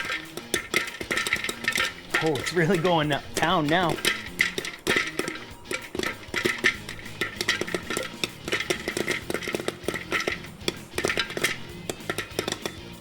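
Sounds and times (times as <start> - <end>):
popcorn popping: 0.0 - 13.0.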